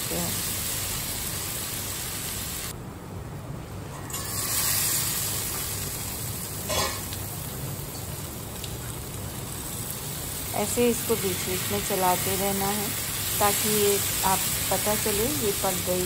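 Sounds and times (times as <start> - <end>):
vegetables sizzling in oil: 0.0 - 2.7, 4.0 - 16.0.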